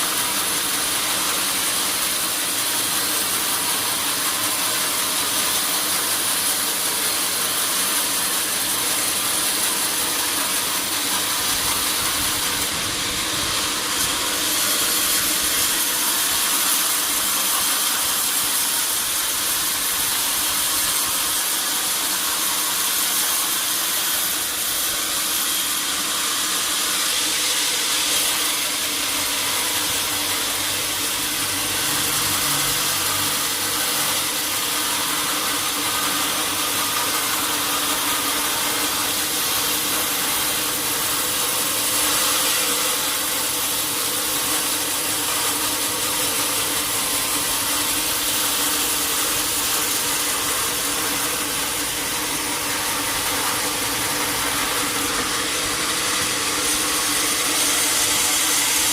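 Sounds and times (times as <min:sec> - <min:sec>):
sawmill saw hissing whir: 0:00.0 - 0:58.9.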